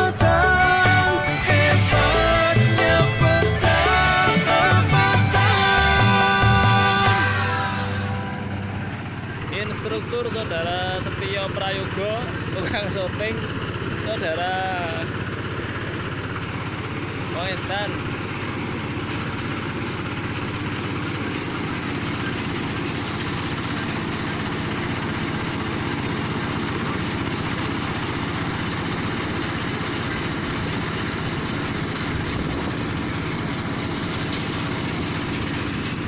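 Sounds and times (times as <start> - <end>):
combine harvester droning: 0.0 - 36.0.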